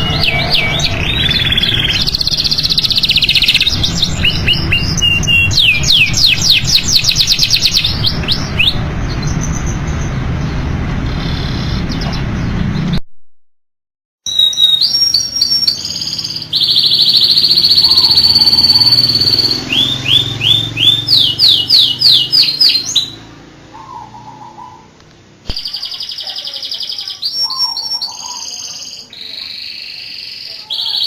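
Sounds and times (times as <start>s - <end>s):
canary singing: 0.0s - 13.0s, 14.3s - 31.0s.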